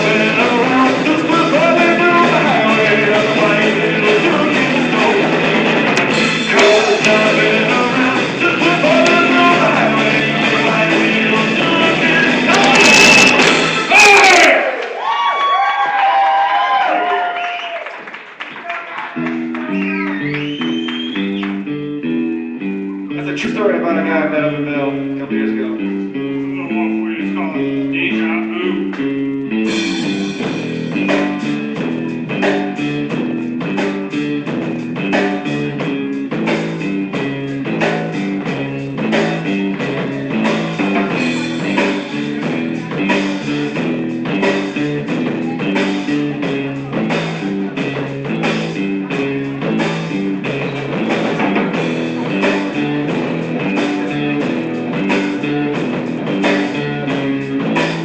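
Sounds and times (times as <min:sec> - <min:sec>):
instrumental guitar music with drums: 0:00.0 - 0:14.4, 0:19.2 - 0:58.0.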